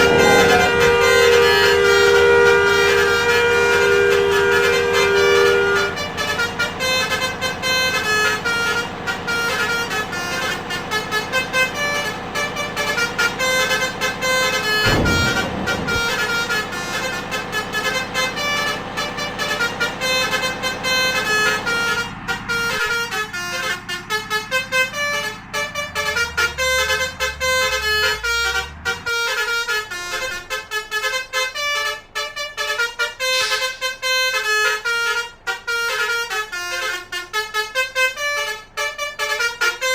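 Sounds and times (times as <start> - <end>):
bus musical horn melody: 0.0 - 39.9
road traffic rumble: 0.0 - 39.9.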